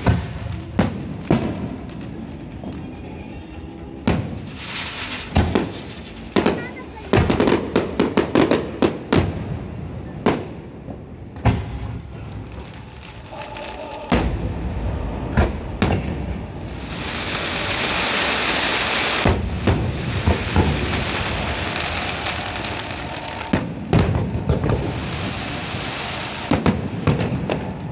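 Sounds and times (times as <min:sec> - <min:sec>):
fireworks booming: 0:00.0 - 0:03.0, 0:04.0 - 0:27.9
crackling hiss of fireworks stars: 0:00.0 - 0:27.9.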